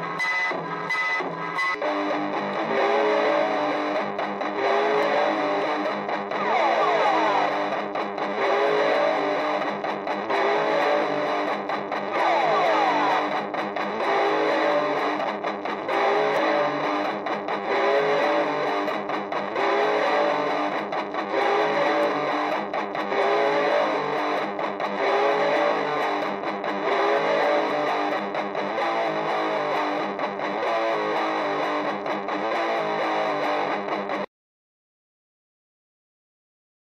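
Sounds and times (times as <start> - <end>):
distorted electric guitar: 0.0 - 34.3.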